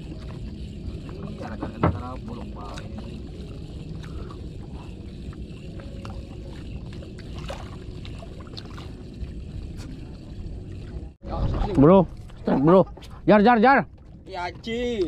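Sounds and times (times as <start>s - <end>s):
low rumble of wind and water: 0.0s - 15.0s.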